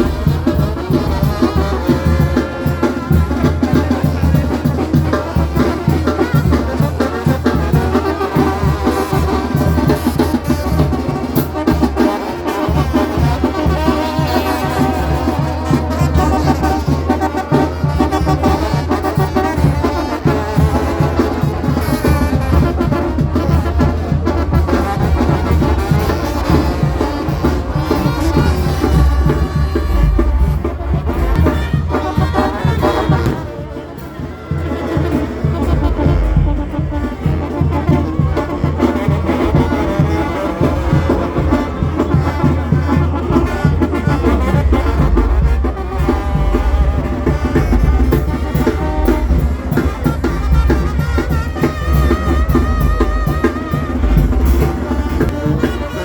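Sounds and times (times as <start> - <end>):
brass band playing: 0.0 - 56.0
drums: 0.0 - 56.0.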